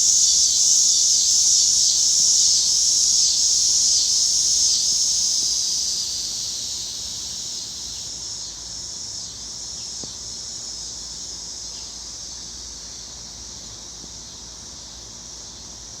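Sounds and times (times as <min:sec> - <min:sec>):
cicadas buzzing: 0:00.0 - 0:16.0.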